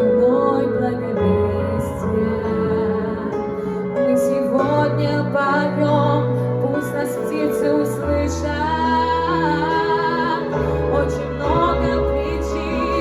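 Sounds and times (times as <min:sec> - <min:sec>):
slow song with wavering melody: 0:00.0 - 0:13.0.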